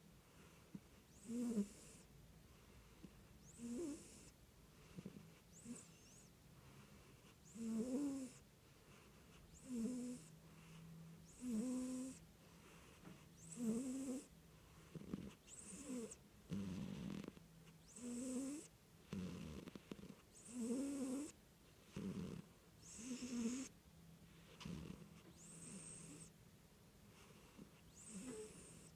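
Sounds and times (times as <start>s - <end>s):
cat snoring: 0.3s - 23.7s, 24.3s - 26.3s, 27.2s - 28.9s.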